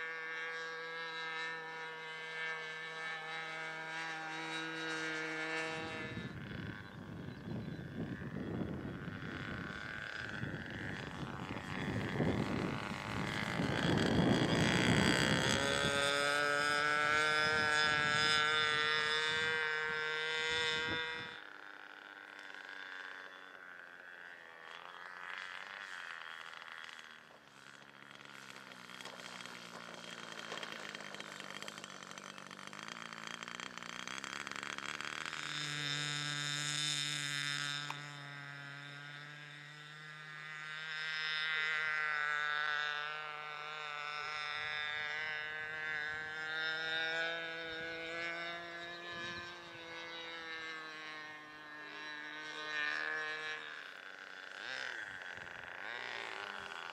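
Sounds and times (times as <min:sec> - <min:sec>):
model airplane engine running: 0:00.0 - 0:56.9.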